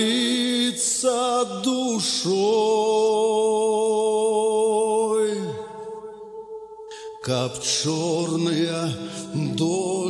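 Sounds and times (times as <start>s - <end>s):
man singing a chant: 0.0s - 6.1s, 7.0s - 10.0s.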